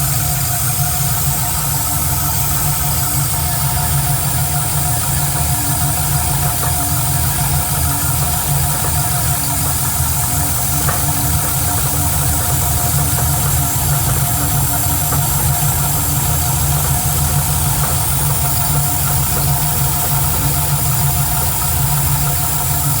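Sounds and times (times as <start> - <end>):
engine knocking: 0.4 - 23.0.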